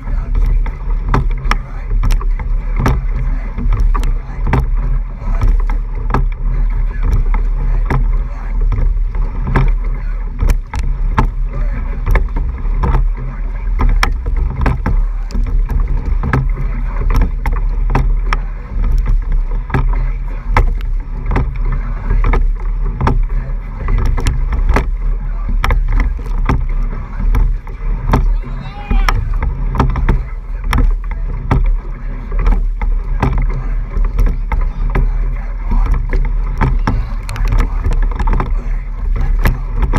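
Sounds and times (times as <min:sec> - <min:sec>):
low rumble of water and air: 0:00.0 - 0:39.9
oars clacking in oarlocks: 0:00.0 - 0:39.9
water rushing past hull: 0:00.0 - 0:39.9.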